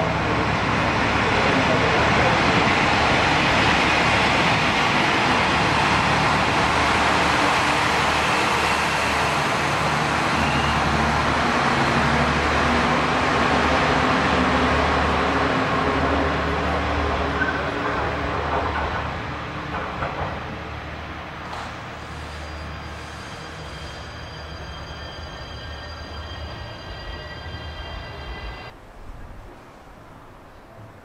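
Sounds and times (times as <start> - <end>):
train wheels on rails: 0.0 - 28.8.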